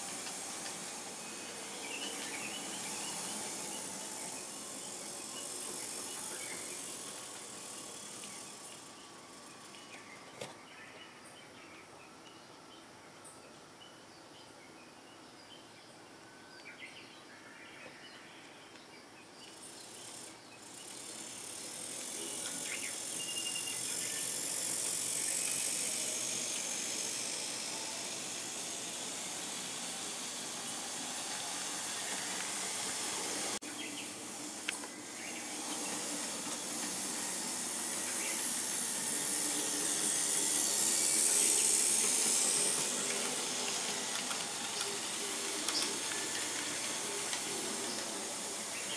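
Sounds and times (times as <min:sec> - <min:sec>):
model train motor whirring: 0:00.0 - 0:10.6, 0:19.6 - 0:48.9.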